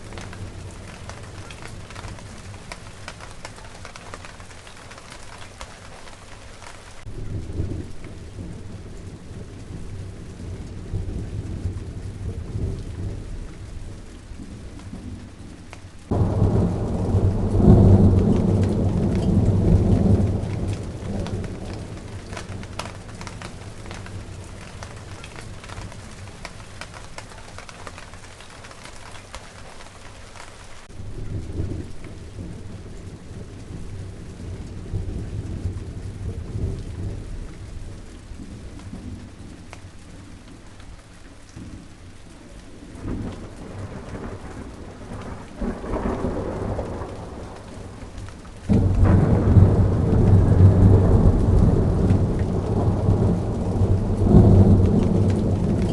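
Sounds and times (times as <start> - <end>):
low thunder rumbles: 0.0 - 6.4, 7.0 - 29.4, 30.8 - 55.9
rain patter: 0.0 - 55.9.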